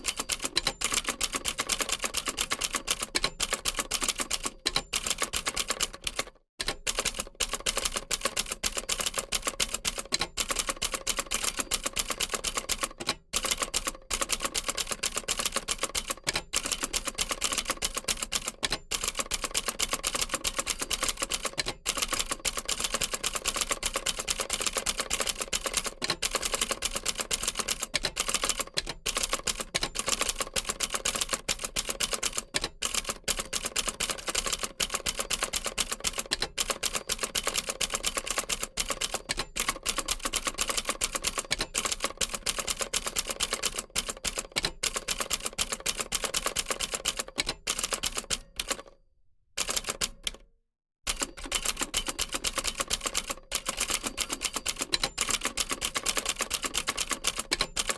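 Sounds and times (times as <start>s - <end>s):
typewriter key clatter: 0.0s - 48.9s, 51.1s - 57.9s.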